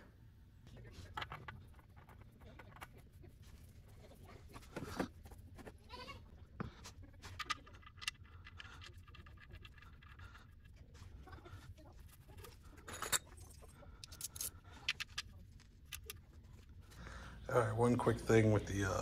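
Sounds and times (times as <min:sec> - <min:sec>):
faint clicks and scrapes: 0:00.6 - 0:17.0.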